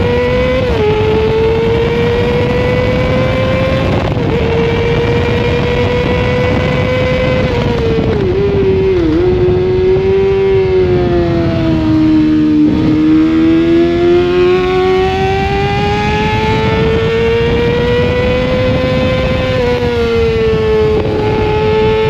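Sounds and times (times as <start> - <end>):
motorcycle engine revving: 0.0 - 22.0
wind noise: 0.0 - 22.0.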